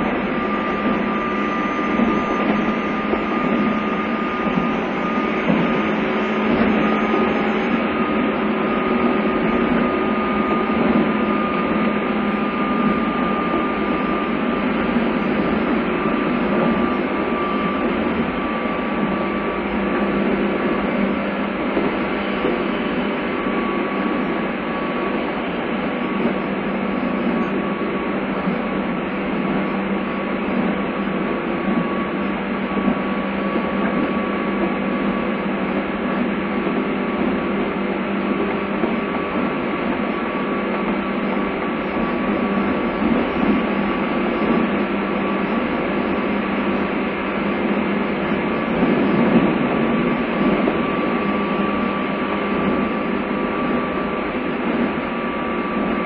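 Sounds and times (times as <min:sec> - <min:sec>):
faint steady tones: 0:00.0 - 0:56.0
train wheel-on-rail rumble: 0:00.0 - 0:56.0.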